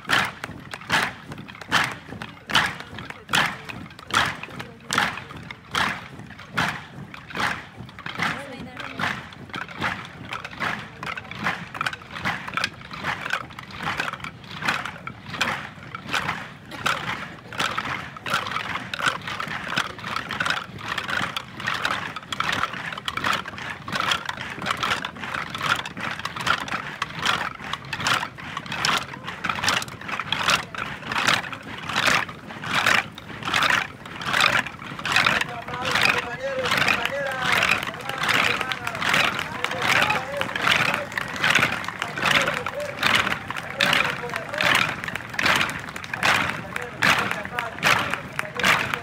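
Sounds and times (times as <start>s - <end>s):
crowd murmur: 0.0s - 49.0s.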